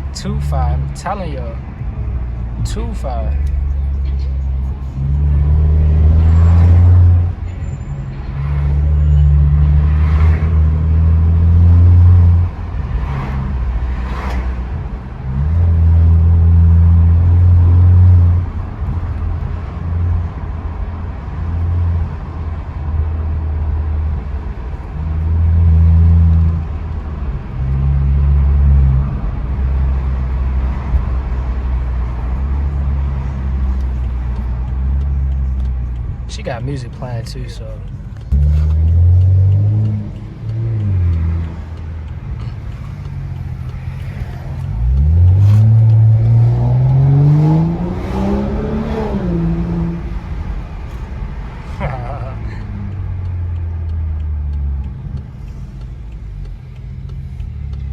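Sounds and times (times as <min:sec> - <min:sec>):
car exhaust rumbling: 0:00.0 - 0:57.9.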